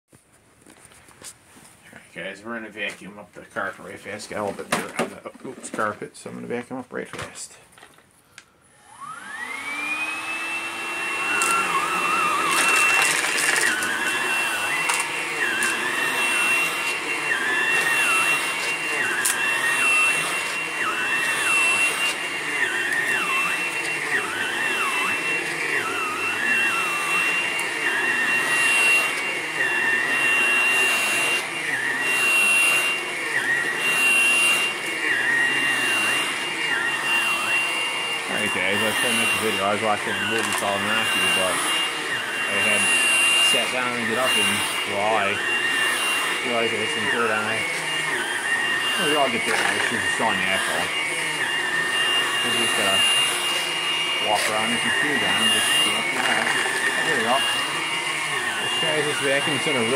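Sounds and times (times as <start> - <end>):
cordless vacuum motor whine: 8.6 - 59.9
vacuum running on carpet: 8.7 - 59.9.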